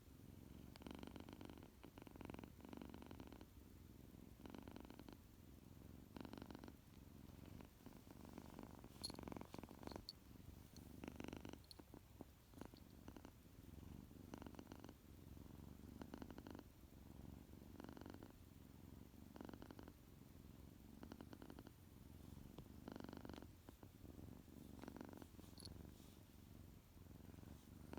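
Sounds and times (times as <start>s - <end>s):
kitten purring: 0.0s - 27.9s.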